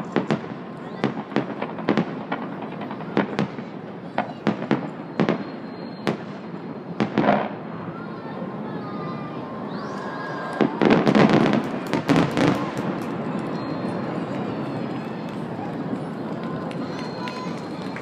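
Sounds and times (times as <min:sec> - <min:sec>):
fireworks crackling: 0:00.0 - 0:08.6, 0:09.8 - 0:18.0.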